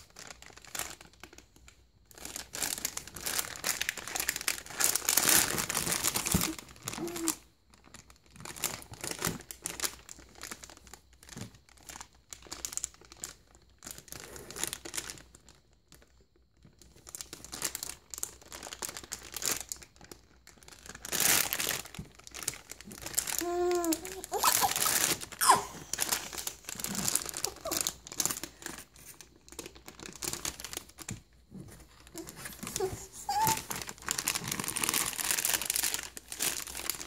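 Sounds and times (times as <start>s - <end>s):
foil bag crinkling: 0.0s - 37.0s.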